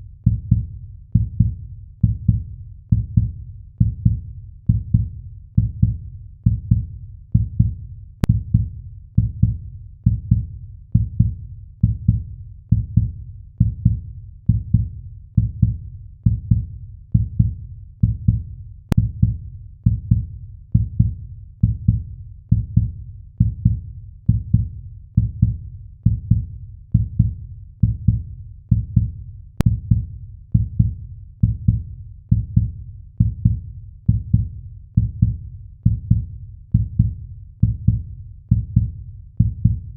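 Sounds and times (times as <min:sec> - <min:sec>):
heartbeat thumps: 0:00.2 - 0:39.9.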